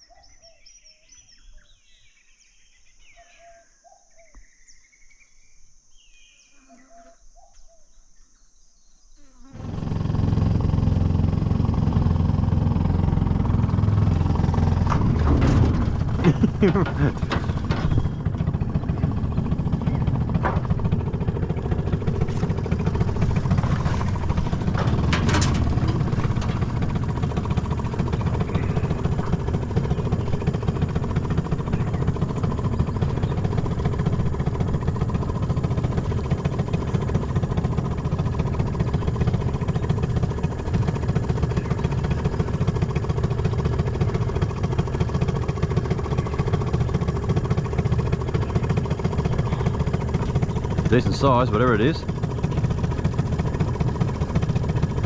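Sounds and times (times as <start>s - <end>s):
outboard motor running: 9.4s - 55.0s.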